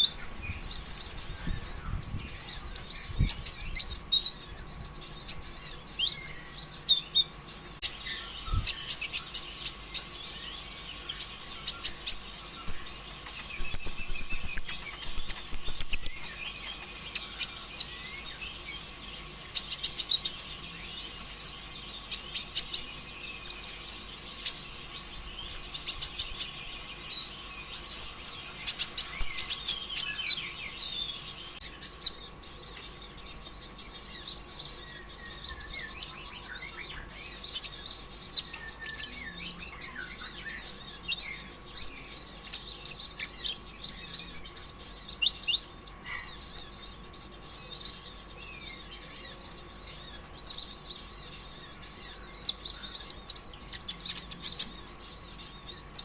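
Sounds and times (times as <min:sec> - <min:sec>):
bird singing high chirps and trills: 0:00.0 - 0:56.0
faint steady hum: 0:00.0 - 0:56.0.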